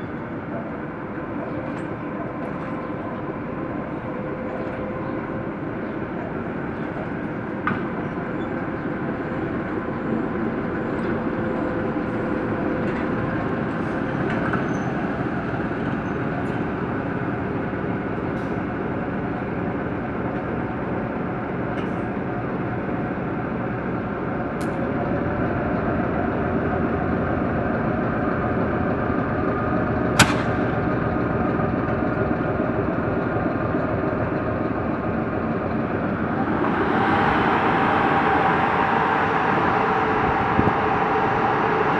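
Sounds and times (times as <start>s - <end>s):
locomotive engine drone: 0.0s - 41.9s.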